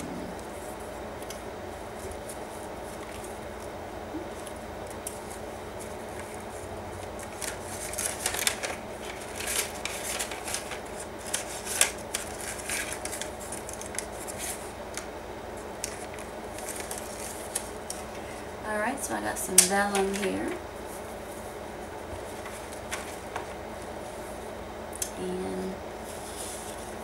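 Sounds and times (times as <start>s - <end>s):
paper rustling and crinkling: 0.0s - 18.4s, 19.6s - 24.4s, 26.0s - 27.0s.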